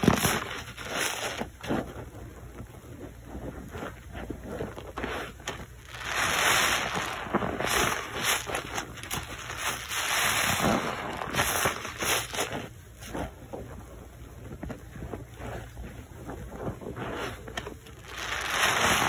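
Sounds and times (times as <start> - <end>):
wet squishing of soap suds: 0.0 - 19.0.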